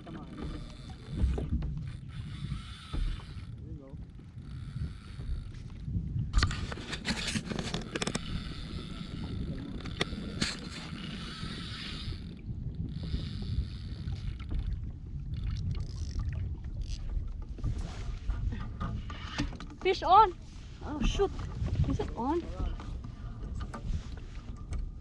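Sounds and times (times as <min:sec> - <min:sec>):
water slapping kayak hull: 0:00.0 - 0:25.0
wind rumbling on microphone: 0:00.0 - 0:25.0.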